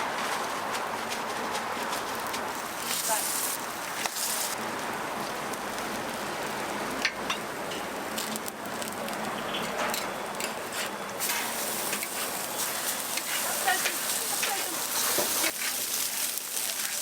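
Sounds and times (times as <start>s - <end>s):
cakes sizzling in oil: 2.6s - 17.0s.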